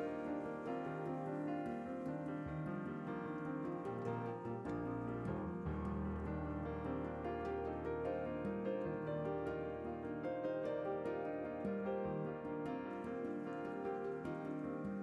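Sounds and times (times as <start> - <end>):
instrumental piano music: 0.0 - 15.0.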